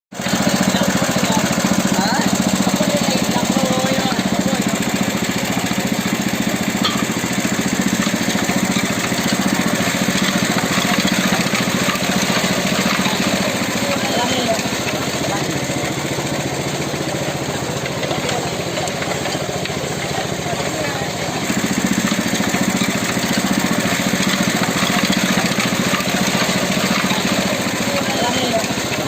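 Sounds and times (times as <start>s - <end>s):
small petrol engine running steadily: 0.1s - 29.0s.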